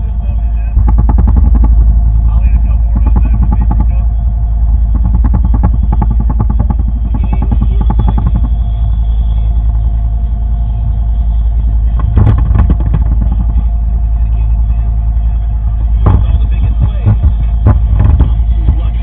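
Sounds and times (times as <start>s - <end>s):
boat engine running: 0.0s - 19.0s
loud clatter: 0.7s - 10.2s, 11.8s - 15.1s, 15.9s - 19.0s.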